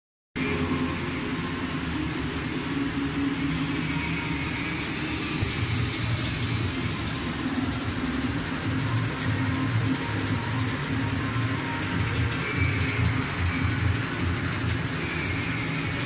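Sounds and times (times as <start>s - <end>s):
fabric slitting machine humming: 0.4s - 16.0s.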